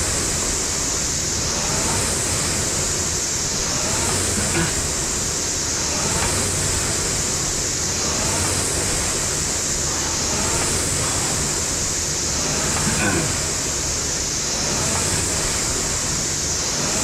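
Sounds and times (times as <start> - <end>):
rowing machine flywheel whooshing: 0.0 - 17.0.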